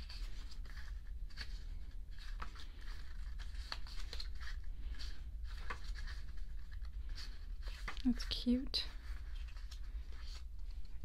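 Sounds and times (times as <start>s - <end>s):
pages being turned: 0.0s - 11.0s.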